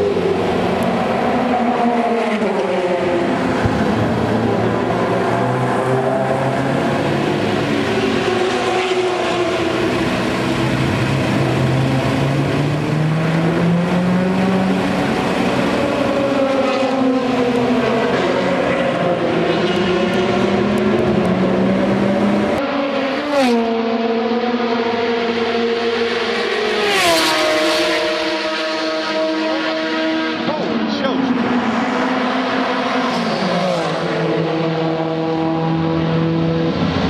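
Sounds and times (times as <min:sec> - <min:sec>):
racing car engines passing: 0:00.0 - 0:37.0.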